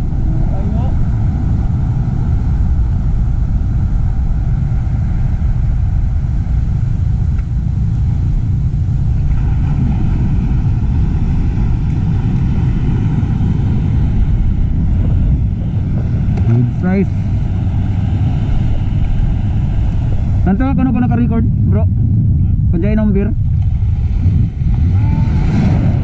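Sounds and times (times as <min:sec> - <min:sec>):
engine rumbling: 0:00.0 - 0:26.0
faint steady hum: 0:00.0 - 0:26.0.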